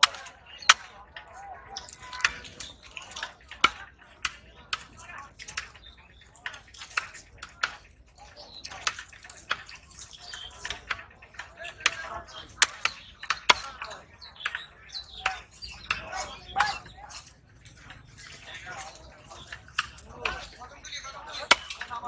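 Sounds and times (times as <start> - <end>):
faint voices: 0.0 - 22.0.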